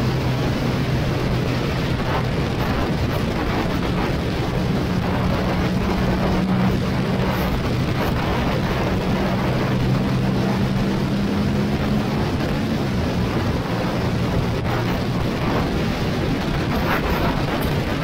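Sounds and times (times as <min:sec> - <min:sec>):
motorcycle engine running: 0:00.0 - 0:18.0
wind rushing on microphone: 0:00.0 - 0:18.0.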